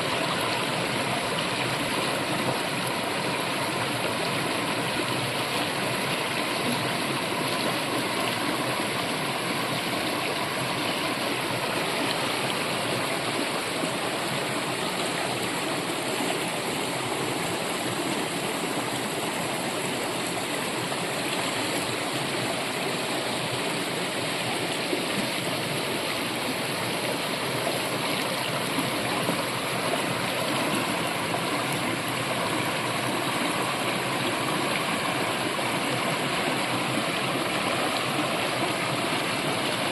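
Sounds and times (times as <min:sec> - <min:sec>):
brook running: 0:00.0 - 0:39.9.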